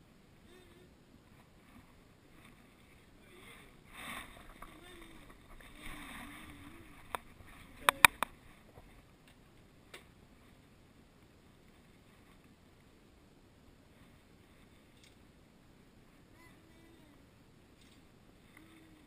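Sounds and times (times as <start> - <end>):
faint wavering whine: 0.0 - 19.0.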